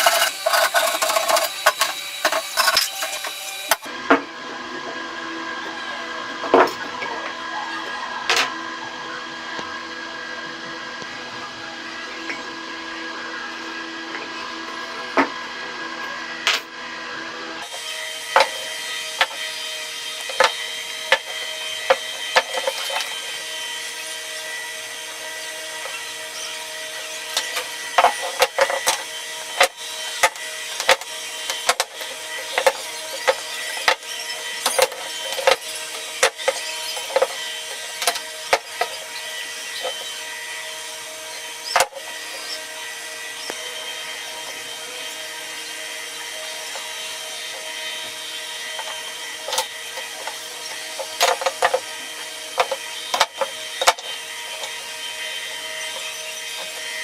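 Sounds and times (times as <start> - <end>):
motor hum: 0.0 - 57.0.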